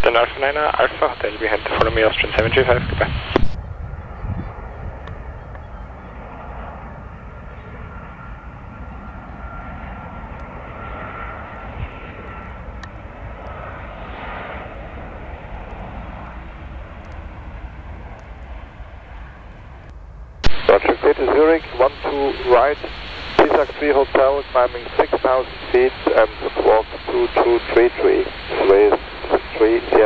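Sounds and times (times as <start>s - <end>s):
faint engine whine: 0.0s - 30.0s
jet engines rumbling: 0.0s - 30.0s.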